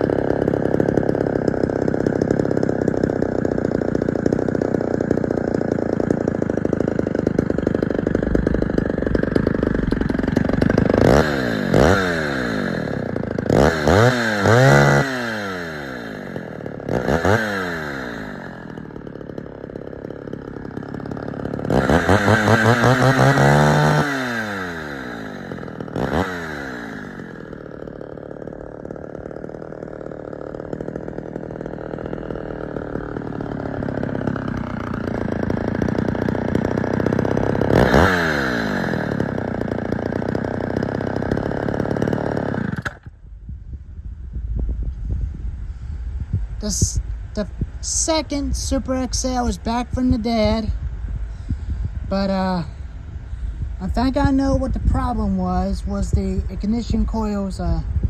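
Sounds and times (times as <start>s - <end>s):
chainsaw running and revving: 0.0s - 58.0s.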